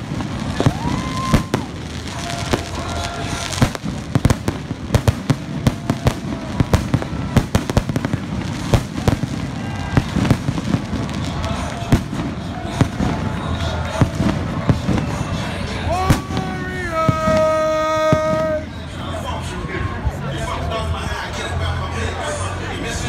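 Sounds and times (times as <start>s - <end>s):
fireworks bangs and crackles: 0.0s - 19.4s.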